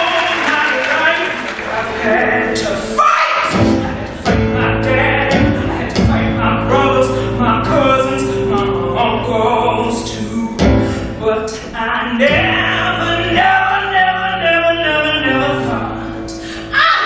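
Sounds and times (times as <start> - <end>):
theatre pit orchestra: 0.0 - 17.0
woman singing a show tune: 0.0 - 17.0.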